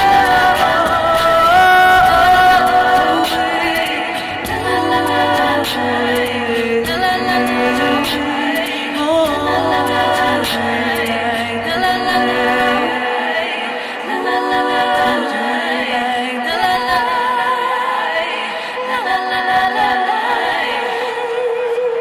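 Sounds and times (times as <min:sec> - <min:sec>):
voices singing in harmony: 0:00.0 - 0:22.0.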